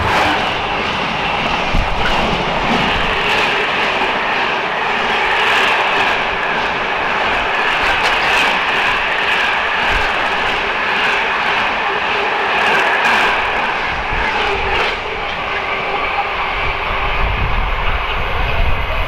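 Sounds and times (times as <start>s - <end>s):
train engine running: 0.0s - 19.0s.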